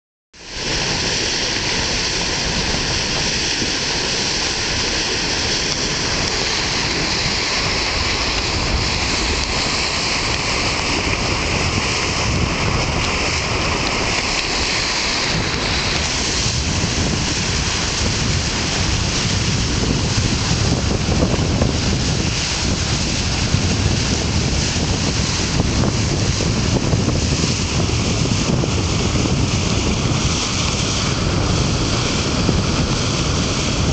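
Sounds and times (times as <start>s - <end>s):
water rushing along a boat hull: 0.4s - 33.9s
wind buffeting the microphone: 0.4s - 33.9s.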